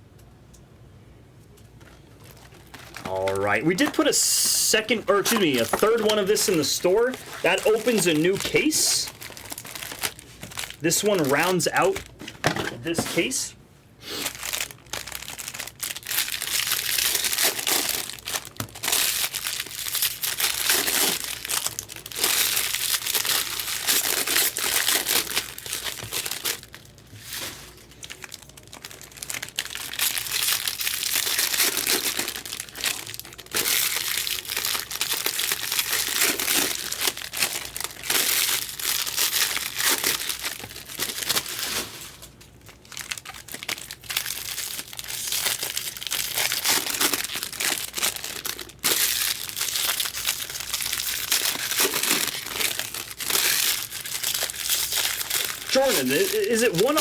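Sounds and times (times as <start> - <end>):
plastic wrapping crinkling and tearing: 1.8 - 13.5, 14.1 - 57.0.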